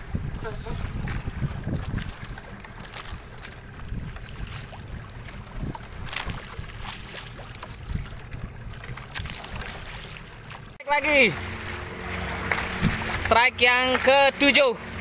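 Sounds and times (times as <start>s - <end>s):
wind and water rumble: 0.0s - 15.0s.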